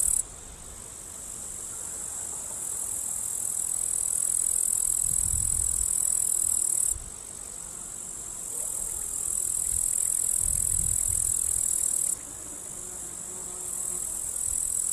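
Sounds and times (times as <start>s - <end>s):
high-pitched insect buzz: 0.0s - 0.3s, 2.7s - 14.9s.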